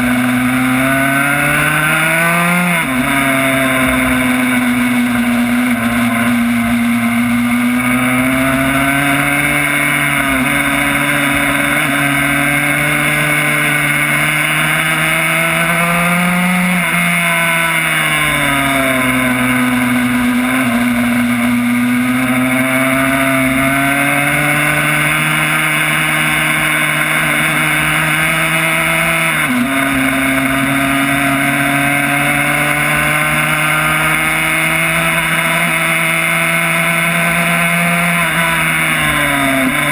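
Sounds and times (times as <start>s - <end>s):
two-stroke race bike engine revving: 0.0s - 39.9s.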